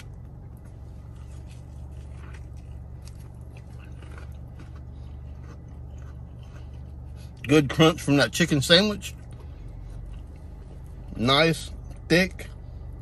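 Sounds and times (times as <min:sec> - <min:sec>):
crunchy chewing: 0:00.0 - 0:13.0
steady low hum: 0:00.0 - 0:13.0.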